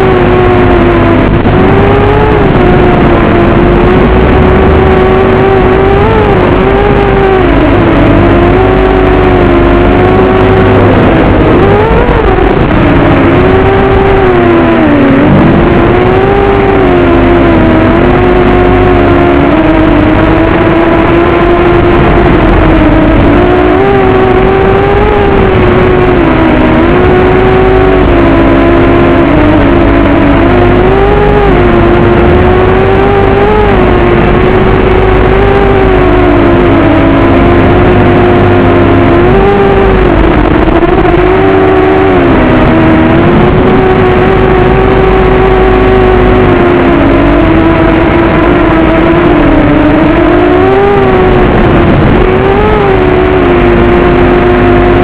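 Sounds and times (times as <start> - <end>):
drone motors buzzing: 0.0 - 55.0
steady rushing noise: 0.0 - 55.0.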